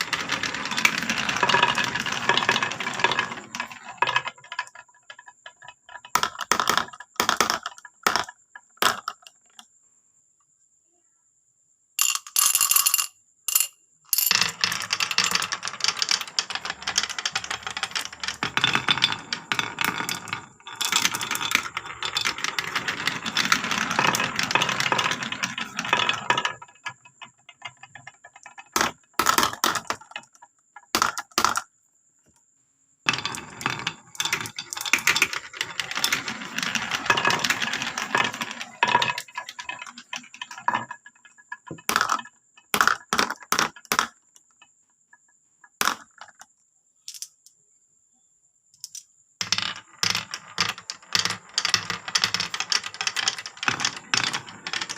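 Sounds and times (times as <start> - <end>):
marbles rolling and clattering: 0.0 - 9.6, 12.0 - 31.7, 33.1 - 46.5, 48.8 - 54.9.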